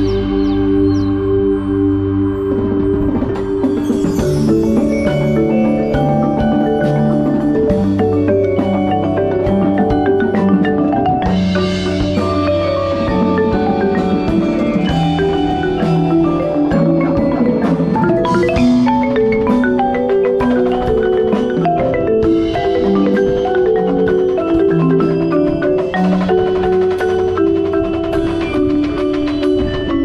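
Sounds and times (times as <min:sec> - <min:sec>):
marimba played with mallets: 0:00.0 - 0:30.0.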